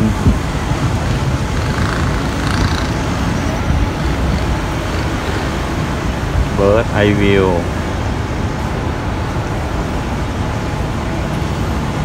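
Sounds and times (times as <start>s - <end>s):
city road traffic rumble: 0.0s - 12.0s.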